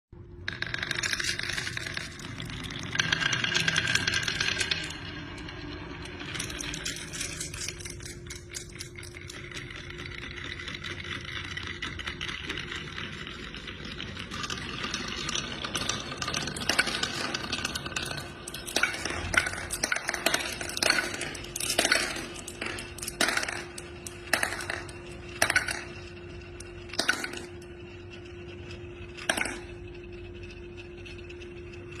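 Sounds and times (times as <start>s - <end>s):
glass marbles clattering: 0.4s - 32.0s
marbles clinking together: 0.4s - 32.0s.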